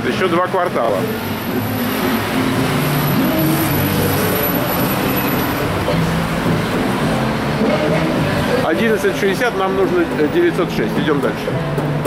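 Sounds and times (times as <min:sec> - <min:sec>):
city traffic engines: 0:00.0 - 0:12.0.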